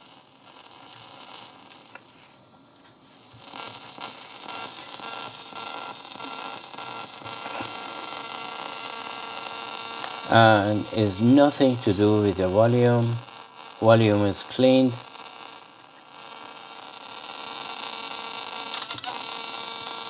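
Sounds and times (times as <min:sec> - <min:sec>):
tape player hiss and hum: 0:00.0 - 0:20.0.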